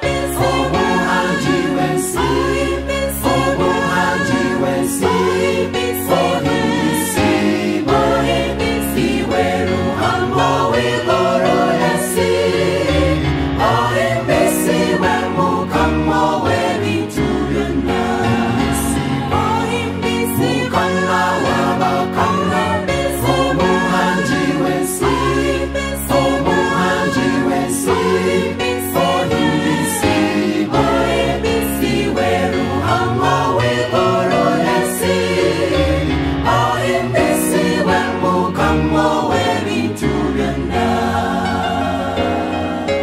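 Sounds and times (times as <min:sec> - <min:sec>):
mixed choir singing gospel: 0:00.0 - 0:43.0.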